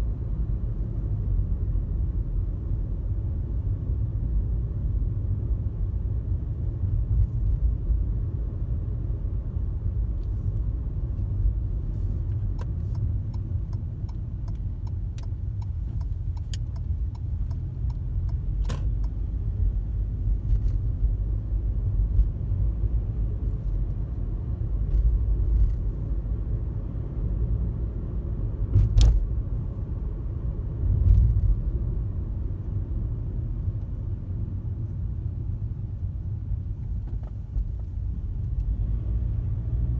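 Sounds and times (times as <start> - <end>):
car road rumble from inside: 0.0 - 39.9.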